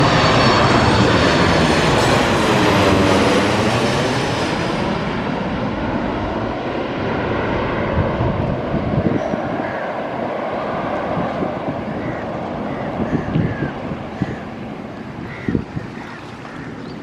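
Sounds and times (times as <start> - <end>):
airliner engine noise overhead: 0.0 - 17.0.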